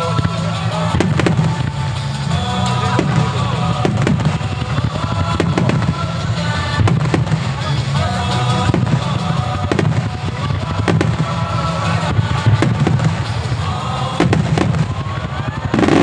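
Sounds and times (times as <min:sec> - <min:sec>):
music: 0:00.0 - 0:16.0.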